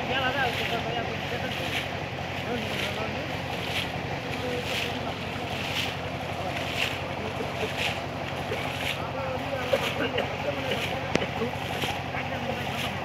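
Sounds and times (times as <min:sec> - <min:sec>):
low motor hum: 0:00.0 - 0:13.0
water splashing: 0:00.0 - 0:13.0.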